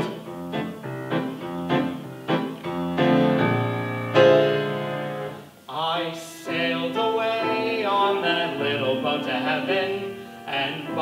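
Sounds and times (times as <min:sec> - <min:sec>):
grand piano chords: 0:00.0 - 0:11.0.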